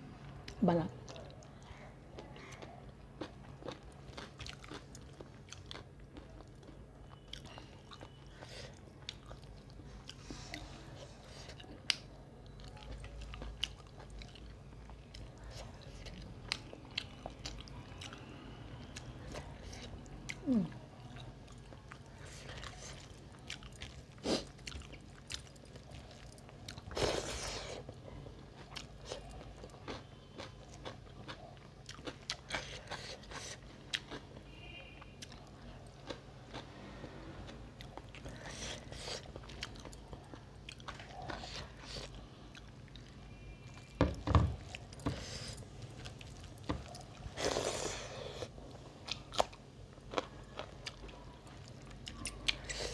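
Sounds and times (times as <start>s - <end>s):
chewing with wet mouth clicks: 0.4s - 27.0s, 27.8s - 43.1s, 48.4s - 52.9s.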